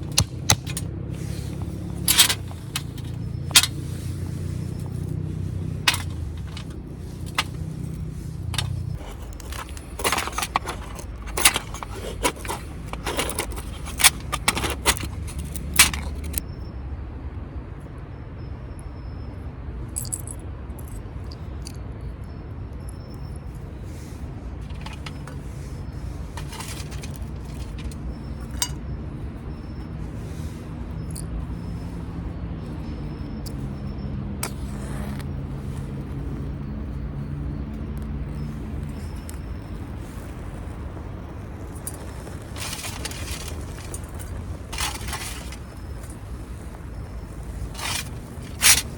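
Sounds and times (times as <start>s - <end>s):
metal camping gear clinking: 0.0s - 16.4s, 19.9s - 21.8s, 22.8s - 31.9s, 34.4s - 48.9s.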